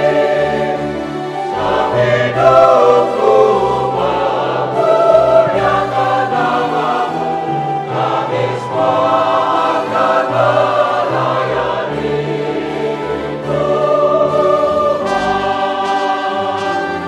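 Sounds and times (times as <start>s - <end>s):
mixed choir singing a hymn: 0.0s - 17.0s.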